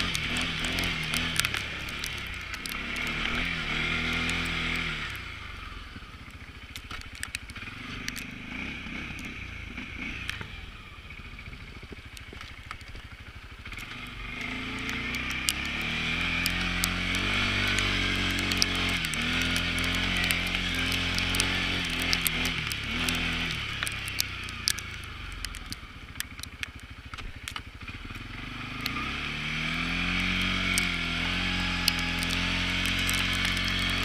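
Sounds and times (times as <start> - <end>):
clicks and crackles: 0.0 - 10.5, 11.5 - 34.0
atv engine revving: 0.0 - 34.0.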